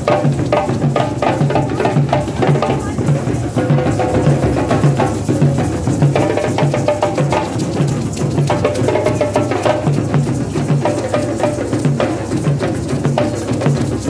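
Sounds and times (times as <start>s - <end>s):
djembes played by hand: 0.0s - 14.0s.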